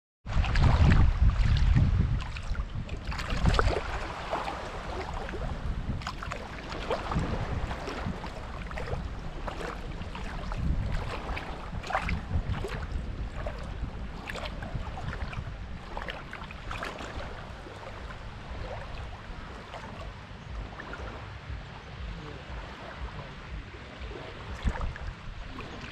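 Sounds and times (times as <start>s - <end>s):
wind rumbling on microphone: 0.2s - 25.9s
seawater lapping and splashing: 0.3s - 25.9s.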